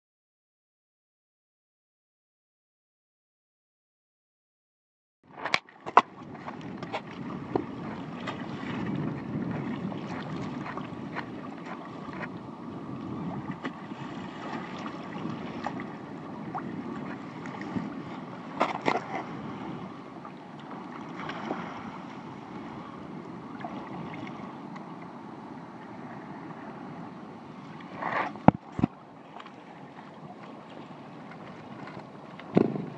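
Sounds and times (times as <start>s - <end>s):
water and wind noise: 5.2s - 32.9s.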